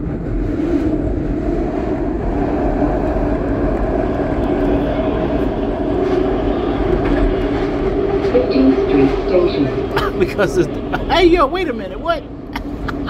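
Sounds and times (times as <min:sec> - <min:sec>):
constant train hum: 0:00.0 - 0:13.0
train wheels rumbling on rail: 0:00.0 - 0:13.0.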